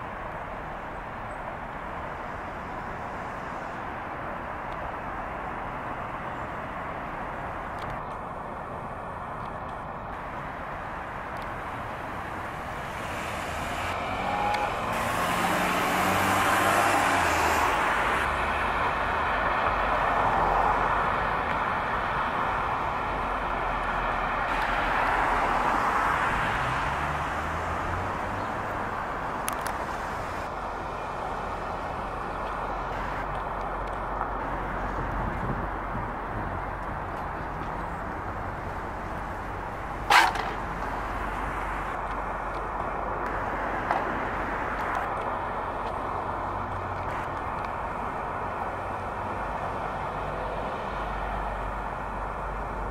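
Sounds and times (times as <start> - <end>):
passing trains: 0.0 - 52.9
traffic rumble: 0.0 - 52.9.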